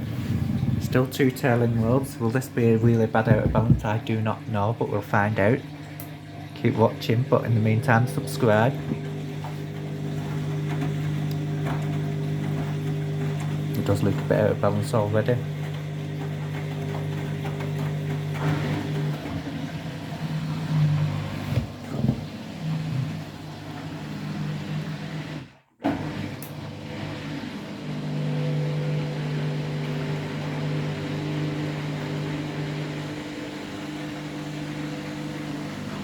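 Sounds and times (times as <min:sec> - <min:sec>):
washing machine spinning: 0:00.0 - 0:36.0.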